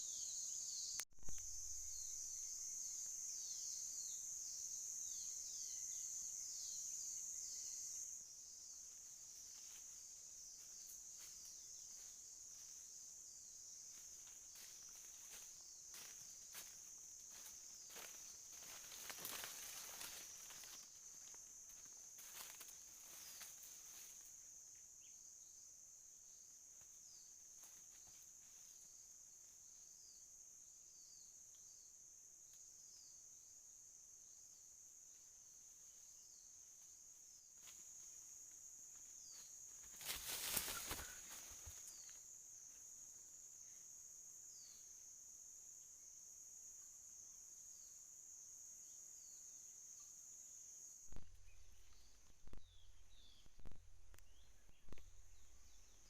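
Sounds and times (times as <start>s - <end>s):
high-pitched insect drone: 0.0s - 53.3s.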